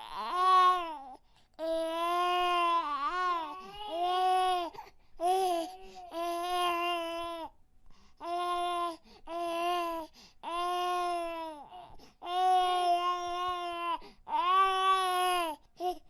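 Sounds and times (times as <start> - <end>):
baby crying: 0.0 - 7.5, 8.2 - 16.0.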